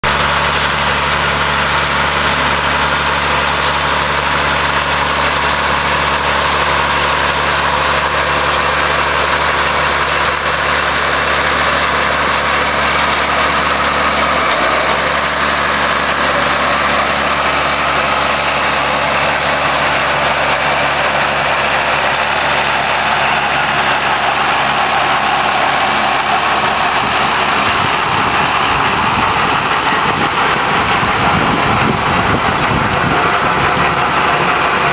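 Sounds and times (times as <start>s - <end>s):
harvester mechanical noise: 0.0s - 34.9s
tractor engine drone: 0.0s - 34.9s.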